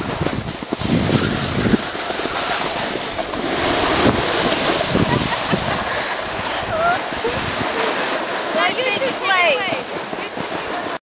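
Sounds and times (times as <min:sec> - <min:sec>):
gusty wind on microphone: 0:00.0 - 0:11.0.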